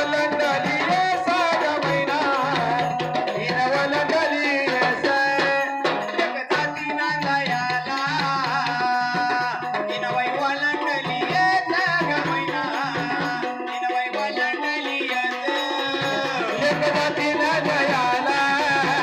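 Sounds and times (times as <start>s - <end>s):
hand drum rhythm: 0.0s - 19.0s
person singing: 0.0s - 19.0s.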